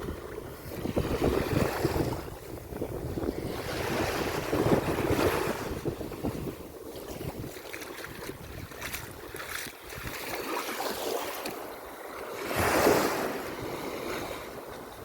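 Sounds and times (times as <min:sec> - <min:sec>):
sea waves breaking on beach: 0:00.0 - 0:15.0
wind on microphone: 0:00.0 - 0:15.0.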